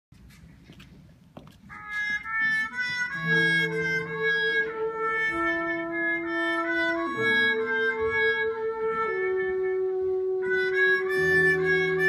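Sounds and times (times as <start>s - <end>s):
live band playing: 2.0s - 12.0s.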